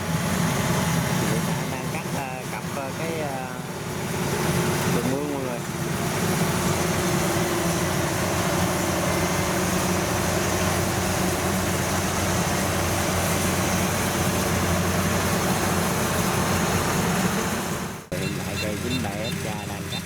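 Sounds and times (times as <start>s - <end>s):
combine harvester diesel engine: 0.0s - 20.0s
threshing machinery running: 0.0s - 20.0s.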